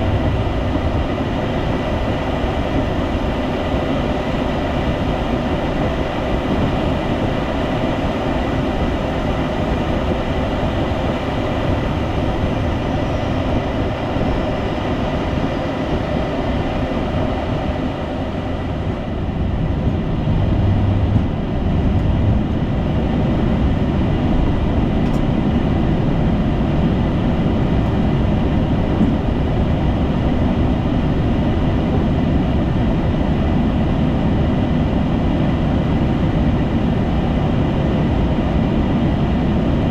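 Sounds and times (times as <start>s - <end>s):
cockpit airflow and engine noise: 0.0s - 39.9s.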